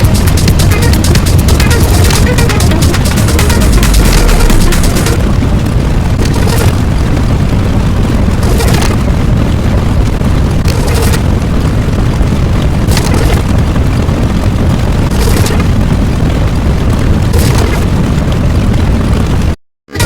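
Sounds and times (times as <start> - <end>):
deep explosion rumble: 0.0 - 20.0
explosion blasts: 0.0 - 20.0.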